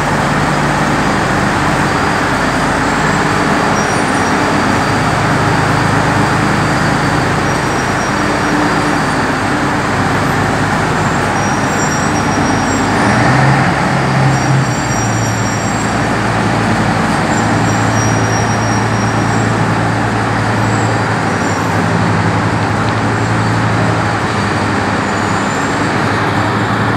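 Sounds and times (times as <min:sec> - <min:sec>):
diesel truck engines idling: 0:00.0 - 0:26.9.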